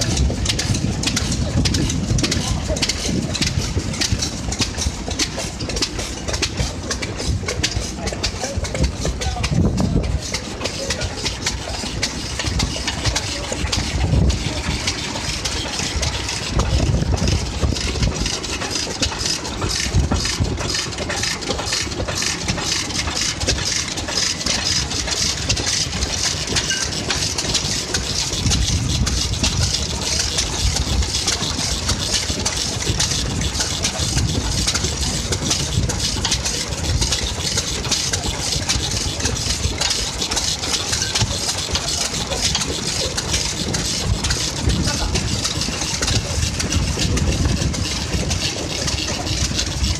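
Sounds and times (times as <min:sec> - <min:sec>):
stationary engines chugging: 0:00.0 - 0:49.9.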